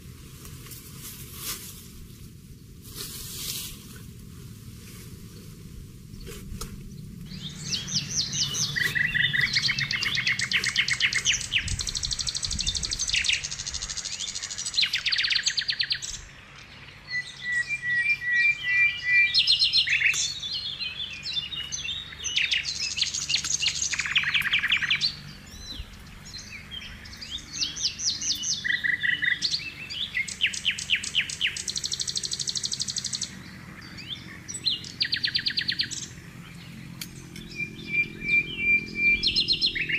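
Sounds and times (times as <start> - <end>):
songbirds singing and trilling: 4.9 - 39.9.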